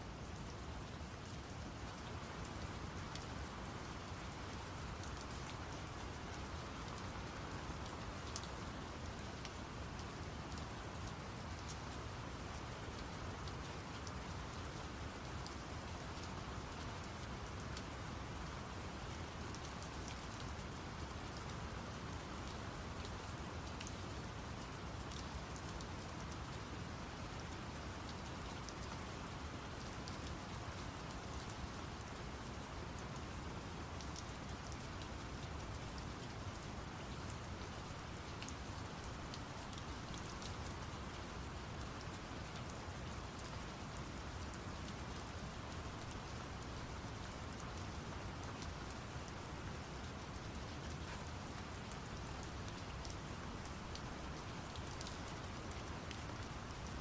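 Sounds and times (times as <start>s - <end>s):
rain pattering: 0.1s - 57.0s.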